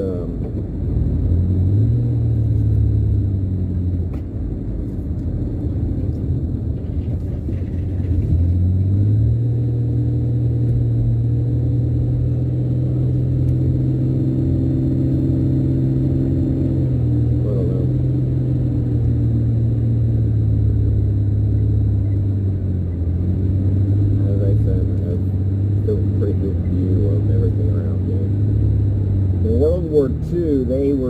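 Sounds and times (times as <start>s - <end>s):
car engine hum: 0.0s - 31.0s
road rumble: 0.0s - 31.0s.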